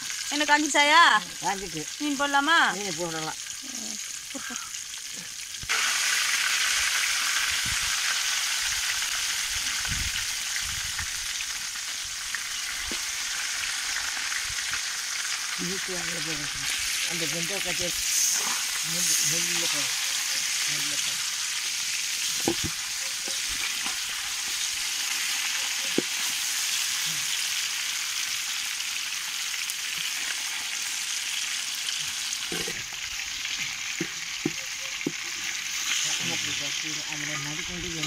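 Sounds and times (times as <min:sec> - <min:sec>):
fish sizzling in oil: 0:00.0 - 0:38.0.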